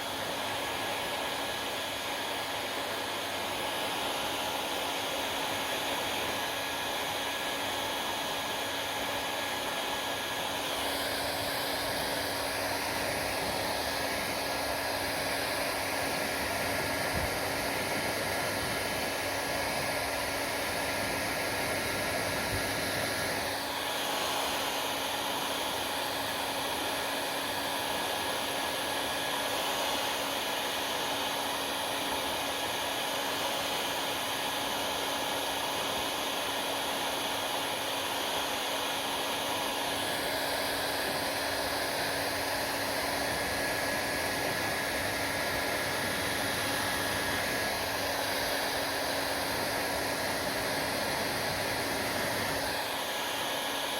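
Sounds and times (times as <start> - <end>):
hair dryer blowing air: 0.0 - 53.9.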